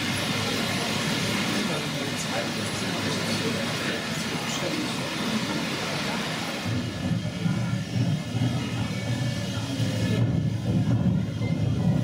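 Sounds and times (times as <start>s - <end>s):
model trains rumbling: 0.0s - 12.0s.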